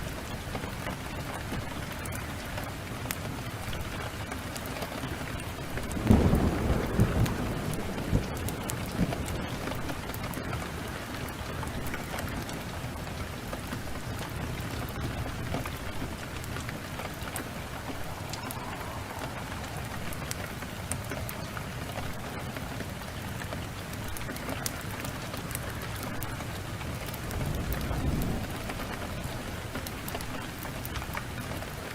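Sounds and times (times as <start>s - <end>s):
heavy rain hissing: 0.0s - 31.9s
wood fire crackling: 0.1s - 31.9s.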